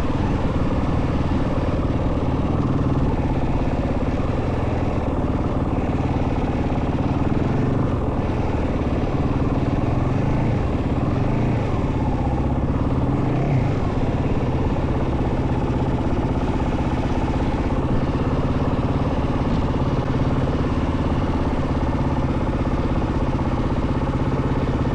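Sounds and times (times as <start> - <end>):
dirt bike engine running: 0.0 - 24.9.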